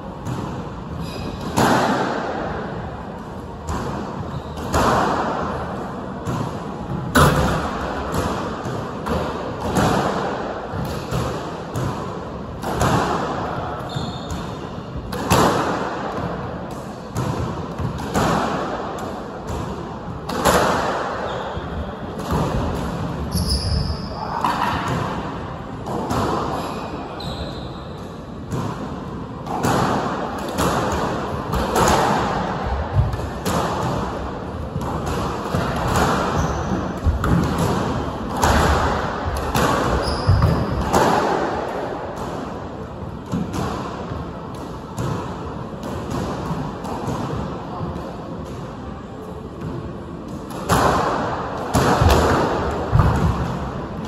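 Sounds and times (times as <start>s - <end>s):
squash racket strikes: 0.0s - 54.0s.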